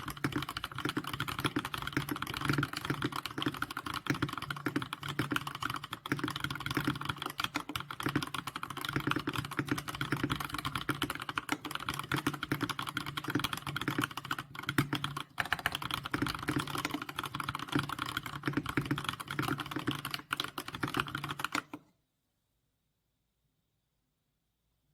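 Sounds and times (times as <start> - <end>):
fast mechanical keyboard typing: 0.0 - 21.8.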